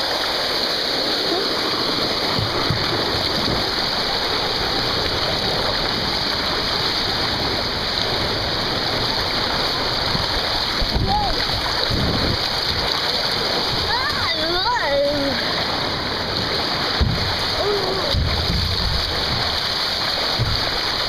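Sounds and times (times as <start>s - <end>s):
water rushing down a waterslide: 0.0s - 21.0s.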